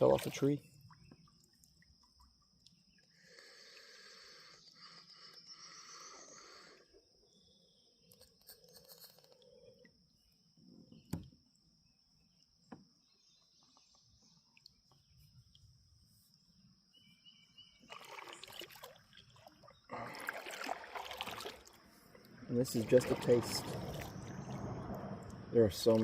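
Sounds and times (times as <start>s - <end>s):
faint water sounds: 0.0s - 12.8s, 13.4s - 26.0s.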